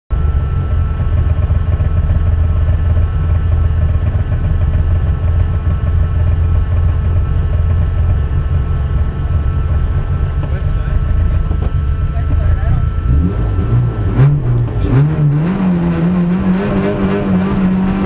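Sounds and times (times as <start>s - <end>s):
car engine idling: 0.1s - 18.0s.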